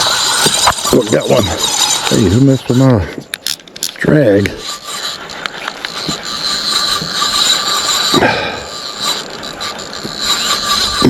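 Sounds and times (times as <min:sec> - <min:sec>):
fishing reel drag whining: 0:00.0 - 0:11.0.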